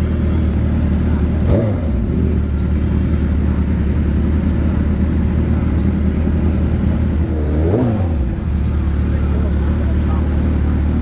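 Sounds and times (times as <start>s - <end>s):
motorcycle engine revving: 0.0s - 11.0s
motorcycle engine running: 0.0s - 11.0s.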